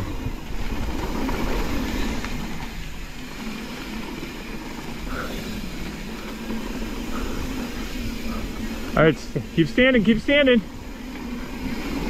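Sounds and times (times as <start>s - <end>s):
bike tyres rumbling on dirt: 0.0s - 12.0s
wind noise: 0.0s - 12.0s.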